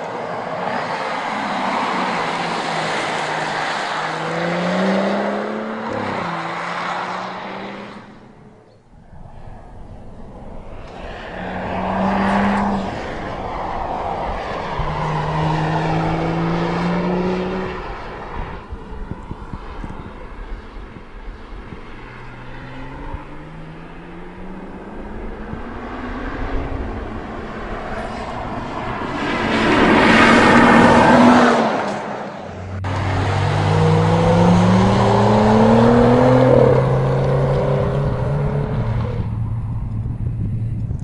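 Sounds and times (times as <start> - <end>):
car engine accelerating: 1.2 - 41.0.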